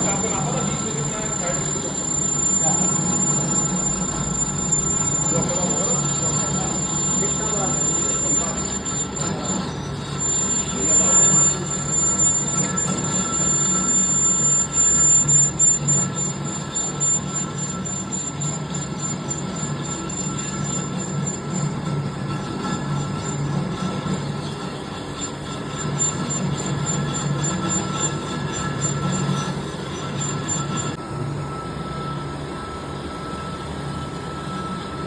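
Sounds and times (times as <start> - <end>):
lathe whining: 0.0 - 35.0.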